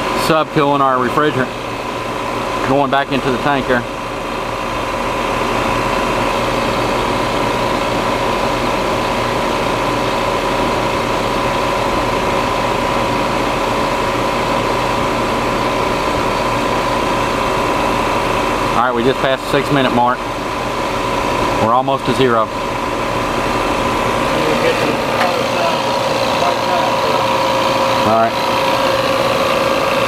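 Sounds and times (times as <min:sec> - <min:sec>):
recovery machine humming: 0:00.0 - 0:30.0.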